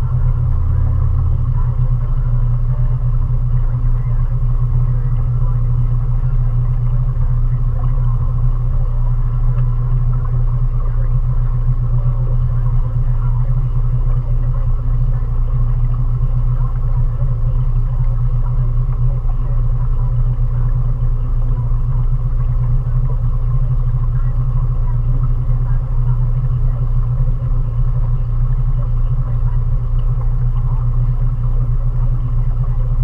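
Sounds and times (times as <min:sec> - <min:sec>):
outboard motor drone: 0:00.0 - 0:33.0.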